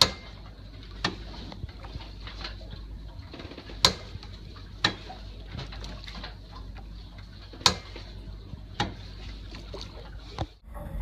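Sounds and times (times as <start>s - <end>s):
sea water washing around hull: 0.0s - 11.0s.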